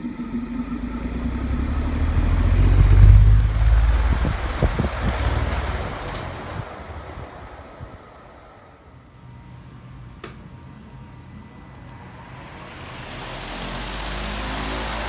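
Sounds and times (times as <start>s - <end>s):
electric fan winding down: 0.0s - 15.0s
fan motor spinning up: 0.0s - 15.0s.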